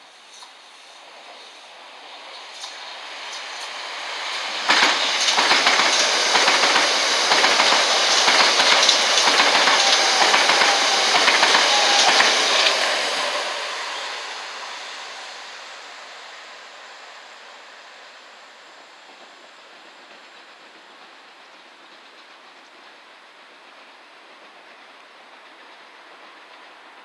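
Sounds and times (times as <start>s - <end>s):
train passing at speed: 0.0s - 27.0s.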